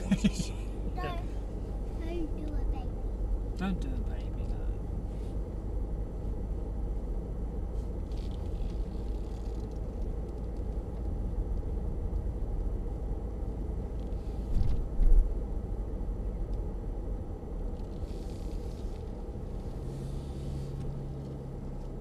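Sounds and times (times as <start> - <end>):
car driving on paved road: 0.0 - 22.0.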